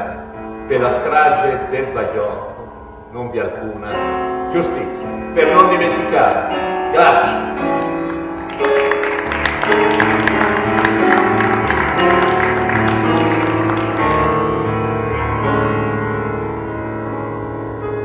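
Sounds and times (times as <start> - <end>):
grand piano playing: 0.0 - 18.0.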